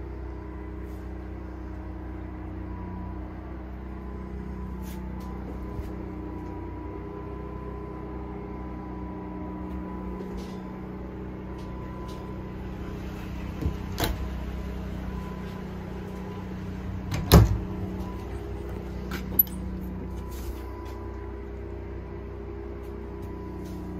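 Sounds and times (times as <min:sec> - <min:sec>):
machine hum with high whine: 0:00.0 - 0:23.9.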